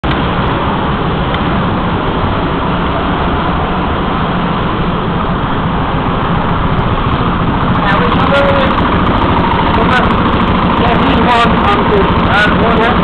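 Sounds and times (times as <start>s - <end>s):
go-kart engines running: 0.0s - 13.0s.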